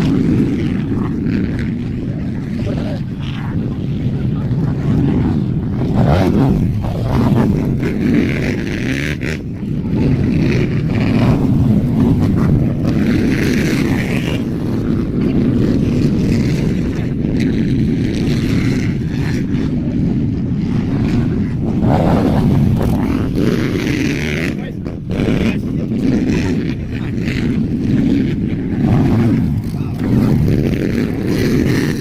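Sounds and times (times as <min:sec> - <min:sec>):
dirt bike engines: 0:00.0 - 0:32.0
wind buffeting microphone: 0:00.0 - 0:32.0.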